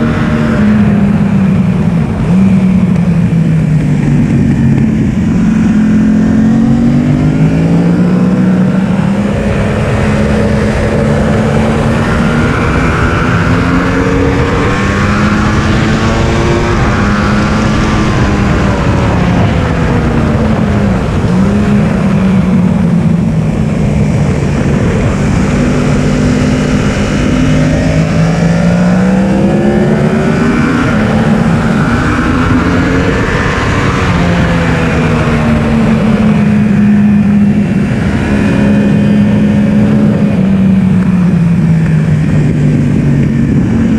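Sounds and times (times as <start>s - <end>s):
motorcycle engine at full throttle: 0.0s - 43.9s.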